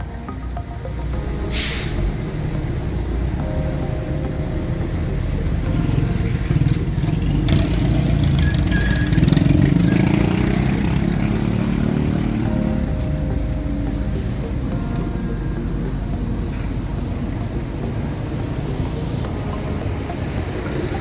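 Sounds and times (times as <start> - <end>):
road and traffic rumble: 0.0 - 21.0
motorcycle engine accelerating: 2.1 - 21.0.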